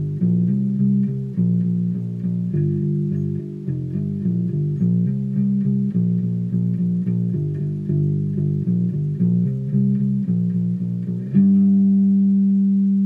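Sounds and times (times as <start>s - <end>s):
electric bass riff: 0.0s - 13.0s.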